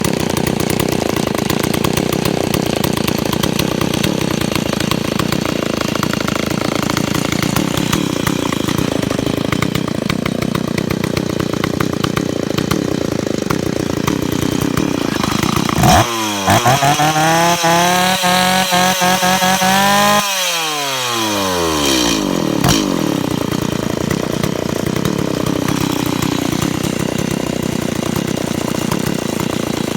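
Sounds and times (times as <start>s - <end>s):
chainsaw engine idling: 0.0s - 29.9s.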